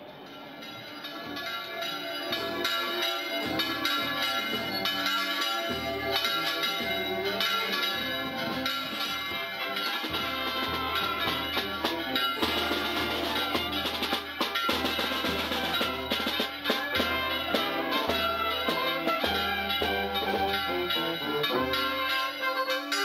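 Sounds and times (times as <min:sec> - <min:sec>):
church bells pealing: 0:00.0 - 0:23.0.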